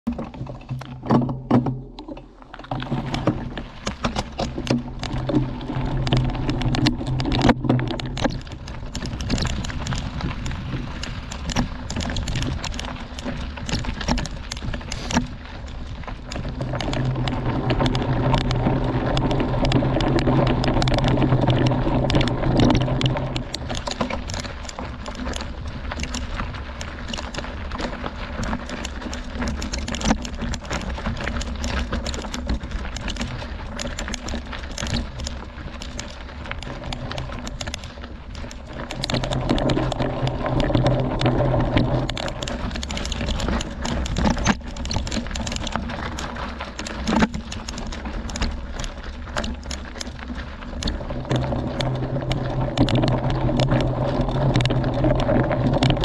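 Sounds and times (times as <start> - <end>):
bike rattling: 0.0 - 56.0
bike tyres crunching on gravel: 1.8 - 56.0.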